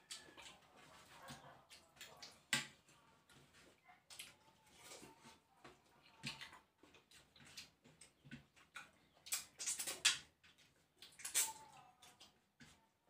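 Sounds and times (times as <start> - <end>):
people eating with mouth smacks: 0.0 - 13.0.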